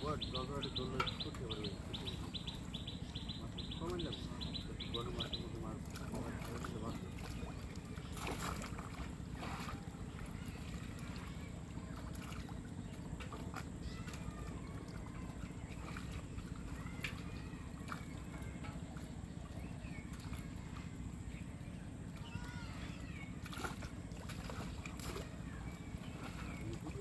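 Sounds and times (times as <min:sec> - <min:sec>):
water sloshing and splashing: 0:00.0 - 0:27.0.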